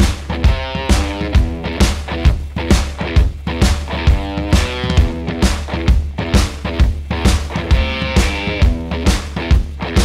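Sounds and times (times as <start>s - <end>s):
rock music with steady drum beat: 0.0s - 10.0s.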